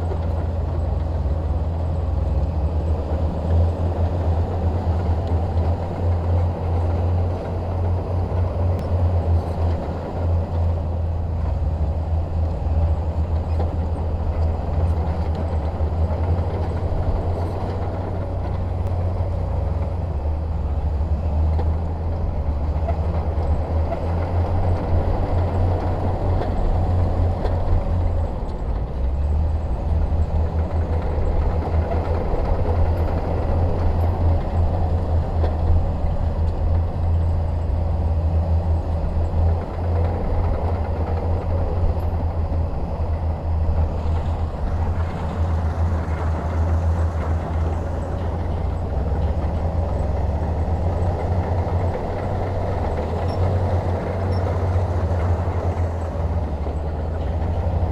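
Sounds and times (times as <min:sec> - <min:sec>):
bulldozer diesel engine rumbling: 0:00.0 - 0:57.9.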